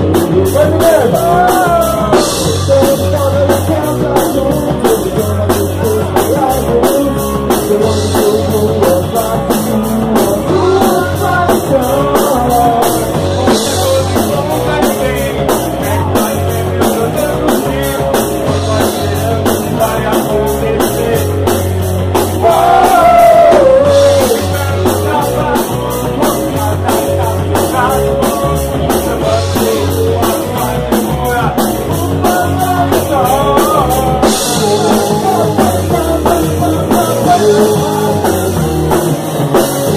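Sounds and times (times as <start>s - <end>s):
person singing: 0.0s - 21.7s, 22.3s - 39.9s
rock band playing: 0.0s - 39.9s.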